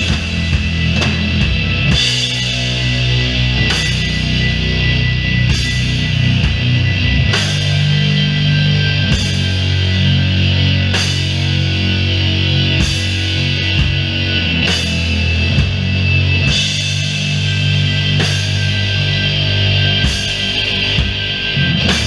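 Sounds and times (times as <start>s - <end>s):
distorted guitar and bass chords: 0.0s - 22.0s.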